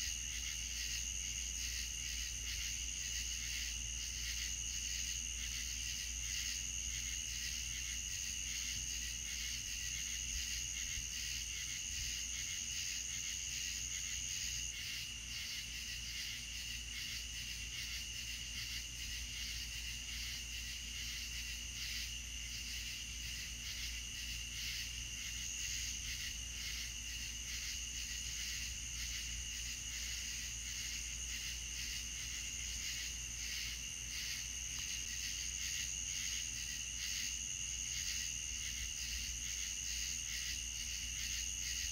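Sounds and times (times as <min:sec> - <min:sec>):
night insects trilling: 0:00.0 - 0:41.9.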